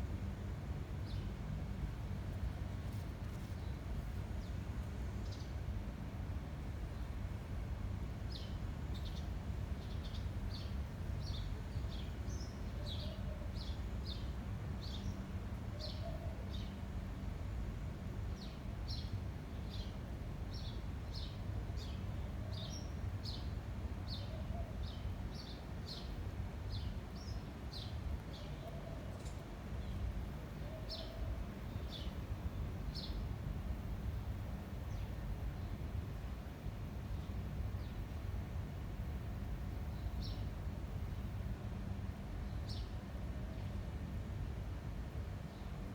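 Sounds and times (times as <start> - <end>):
low rumble of wind: 0.0 - 45.9.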